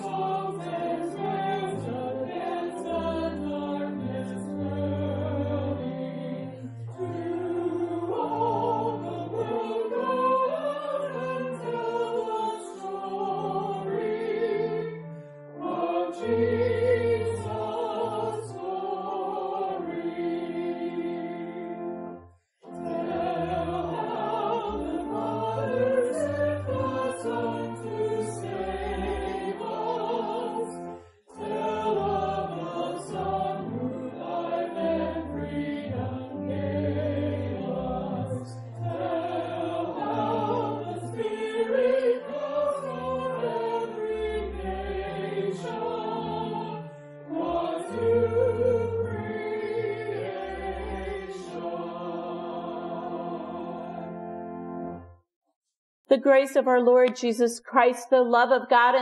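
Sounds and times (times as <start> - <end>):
voices singing a hymn: 0.0 - 55.0.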